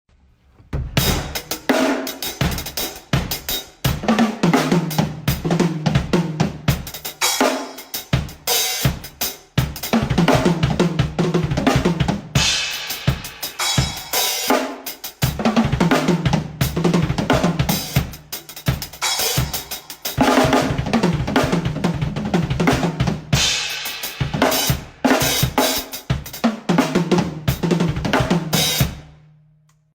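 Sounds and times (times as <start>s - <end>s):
drum kit playing a groove: 0.8s - 29.2s.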